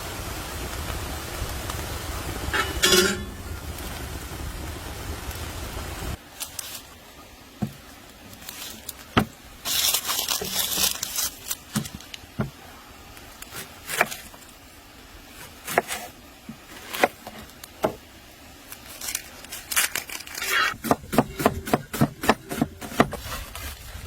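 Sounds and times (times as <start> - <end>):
crackling rustle: 0.0 - 21.0, 22.4 - 24.0.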